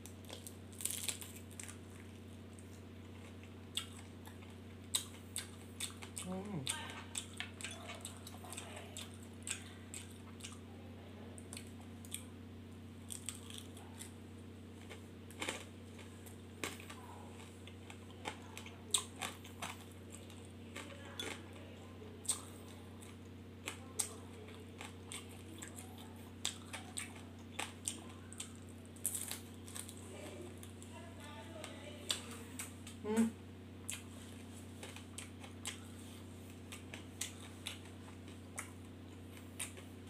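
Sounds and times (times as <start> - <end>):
person chewing and crunching: 0.0 - 10.6, 11.4 - 12.4, 13.1 - 30.0, 33.8 - 40.0
steady low hum: 0.0 - 40.0.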